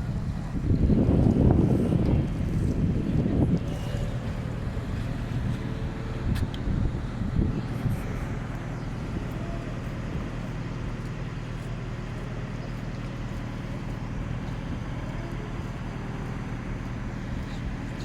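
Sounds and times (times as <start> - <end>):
large engine humming: 0.0 - 18.0.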